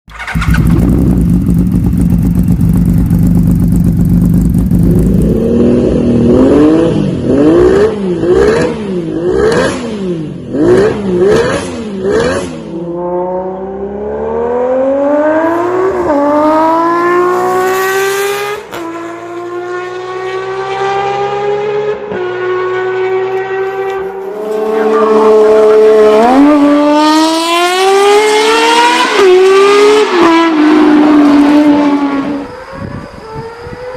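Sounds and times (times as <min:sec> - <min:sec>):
motorcycle accelerating through gears: 0:00.1 - 0:33.9
motorcycle engine revving: 0:00.1 - 0:33.9.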